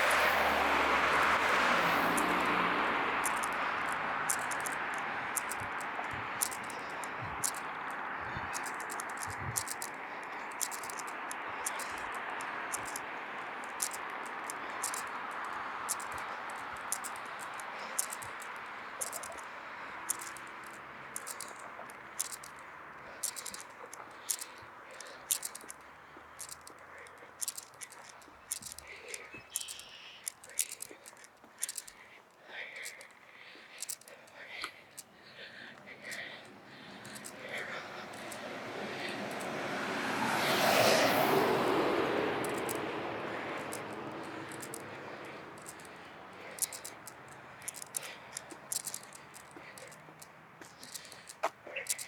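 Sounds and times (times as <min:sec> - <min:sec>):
sharp ticks and rustles: 0:00.0 - 0:52.0
street traffic hiss: 0:00.0 - 0:52.0.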